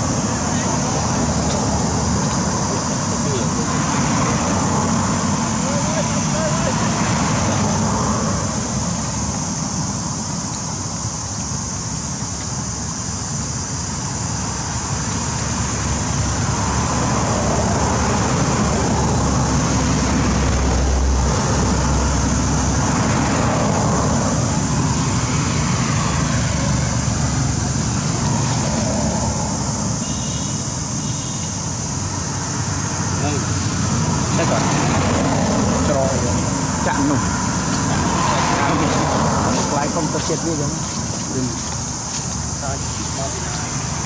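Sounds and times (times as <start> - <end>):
road vehicle passing by: 0.0 - 10.5, 14.0 - 44.0
steady high hiss: 0.0 - 44.0.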